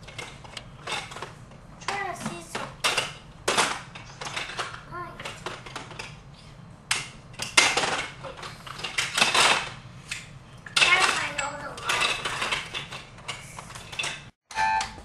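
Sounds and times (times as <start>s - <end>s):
plastic toys clattering: 0.0s - 6.3s, 6.9s - 14.4s.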